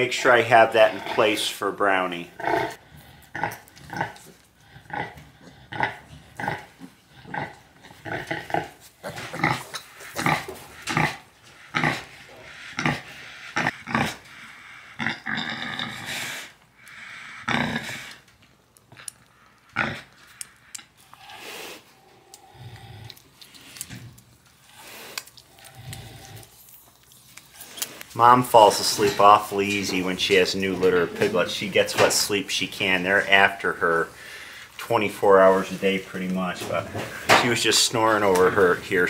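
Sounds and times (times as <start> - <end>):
pigs grunting: 0.0 - 18.3, 19.6 - 24.0, 24.6 - 26.6, 27.6 - 34.6, 35.2 - 39.0.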